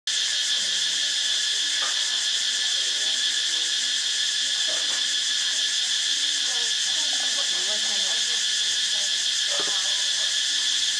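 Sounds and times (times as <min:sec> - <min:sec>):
cicadas buzzing: 0:00.1 - 0:10.9.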